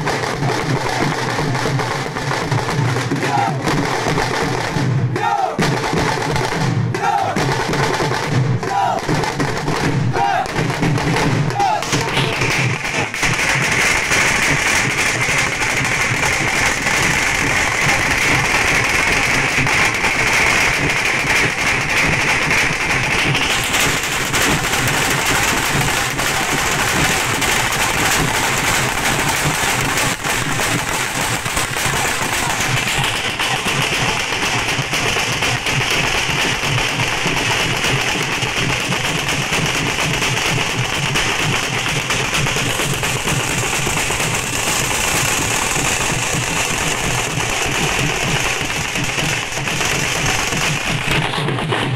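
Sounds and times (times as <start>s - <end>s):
barrel drums played with sticks: 0.0s - 51.9s.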